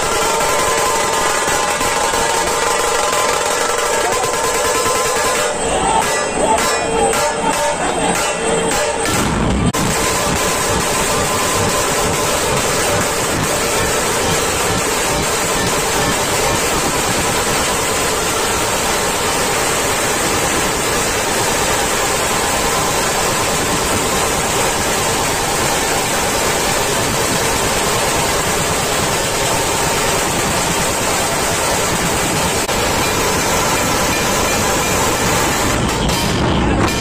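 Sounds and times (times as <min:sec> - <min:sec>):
dhol and tasha drumming: 0:00.0 - 0:37.0.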